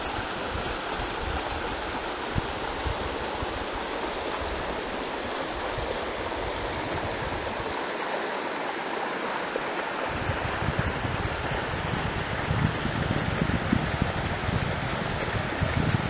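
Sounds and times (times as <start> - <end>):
wind rumble on microphone: 0.0 - 7.8, 10.1 - 16.0
river rushing over stones: 0.0 - 16.0.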